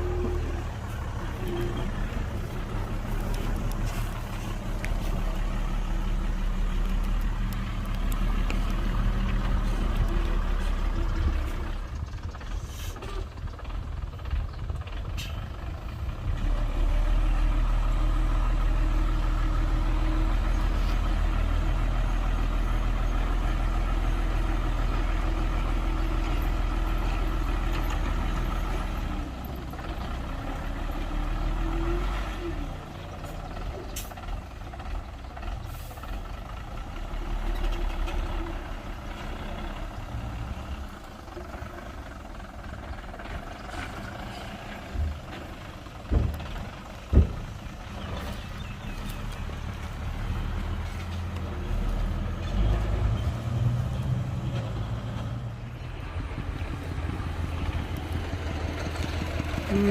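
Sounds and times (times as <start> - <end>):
heavy diesel engine rumbling: 0.0 - 59.9.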